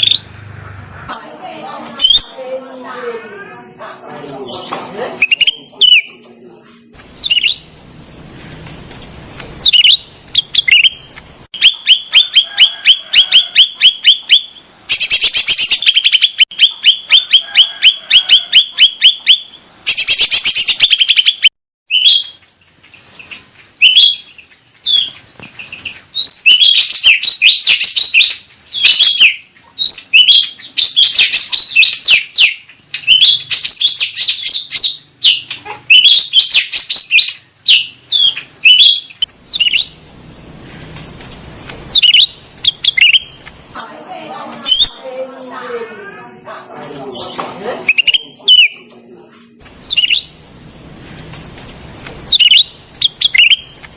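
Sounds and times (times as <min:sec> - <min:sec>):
bird chirping song: 0:02.0 - 0:03.6, 0:04.3 - 0:43.8, 0:44.6 - 0:45.2, 0:47.1 - 0:53.9.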